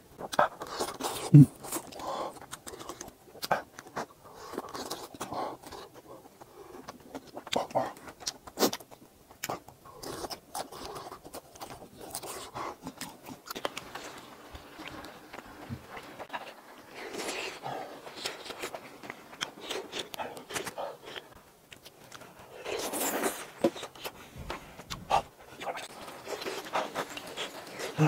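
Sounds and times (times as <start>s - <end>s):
wet chewing and smacking: 0.2s - 28.0s.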